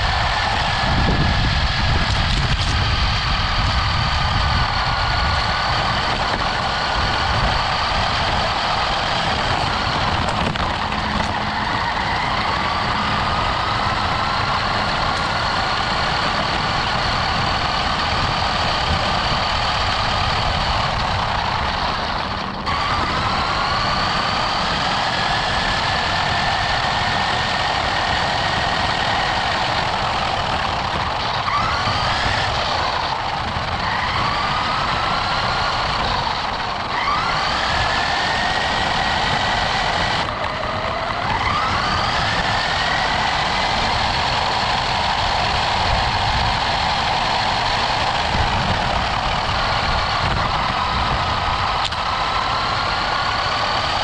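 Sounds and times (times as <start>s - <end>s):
rc car motor whining: 0.0s - 54.0s.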